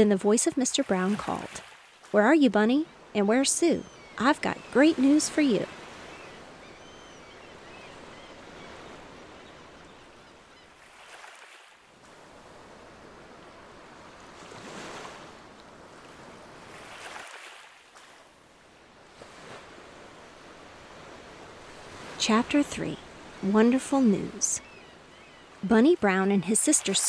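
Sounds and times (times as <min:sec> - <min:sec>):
waves lapping on shore: 0:00.0 - 0:27.0.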